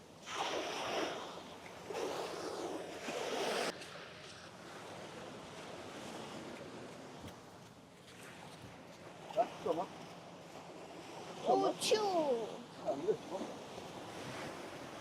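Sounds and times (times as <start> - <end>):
surf washing on beach: 0.0 - 15.0.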